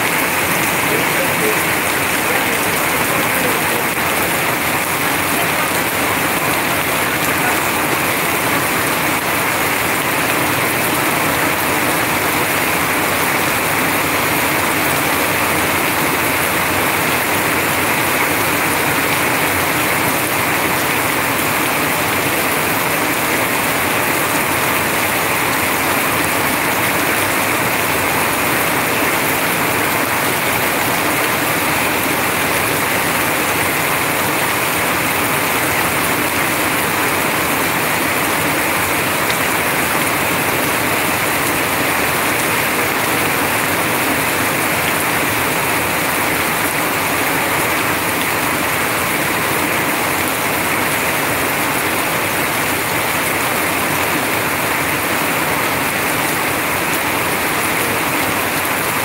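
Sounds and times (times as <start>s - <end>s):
heavy rain falling: 0.0s - 59.0s
runoff splashing onto wet ground: 0.0s - 59.0s.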